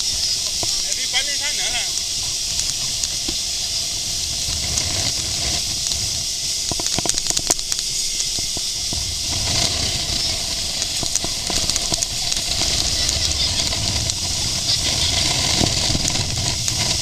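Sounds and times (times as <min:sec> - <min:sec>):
wind and water spray hiss: 0:00.0 - 0:17.0.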